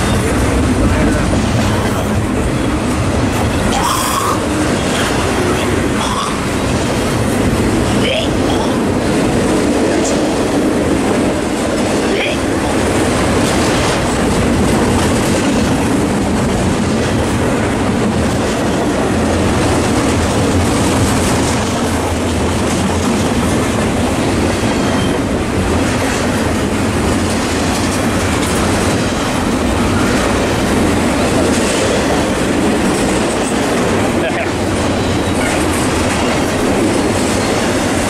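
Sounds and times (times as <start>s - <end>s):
train wheels clattering on rails: 0.0s - 38.0s.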